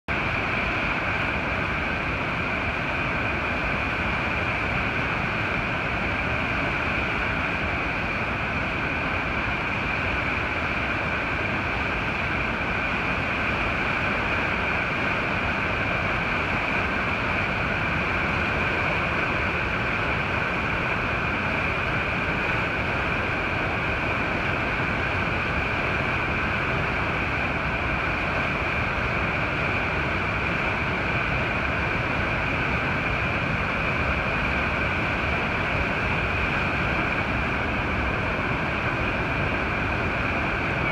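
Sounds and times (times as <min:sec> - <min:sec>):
river rushing over rocks: 0:00.1 - 0:40.9.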